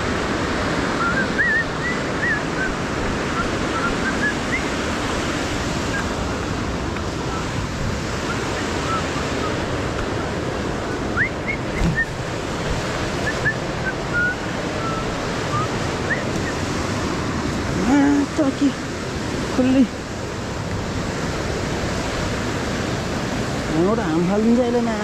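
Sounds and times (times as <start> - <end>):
river rapids rushing: 0.0 - 25.0.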